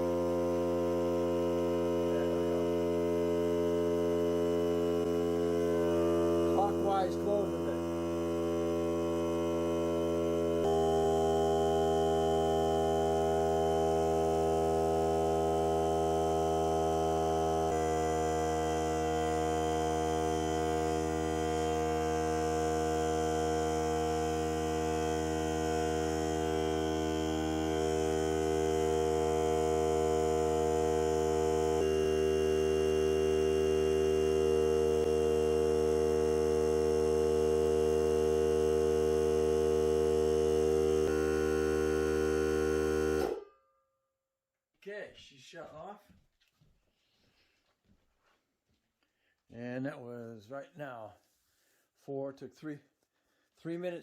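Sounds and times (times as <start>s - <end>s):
air compressor humming: 0.0s - 43.5s.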